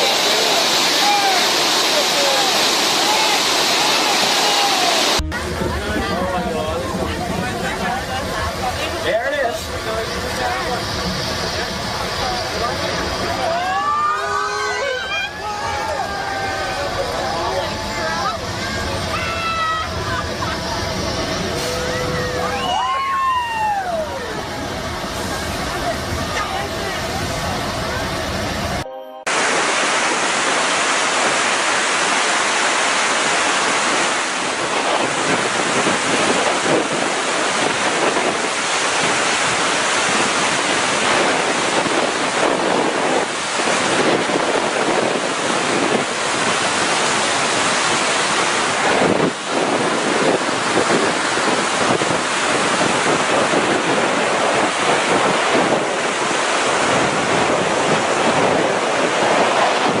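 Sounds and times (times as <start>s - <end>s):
floodwater rushing: 0.0s - 60.0s.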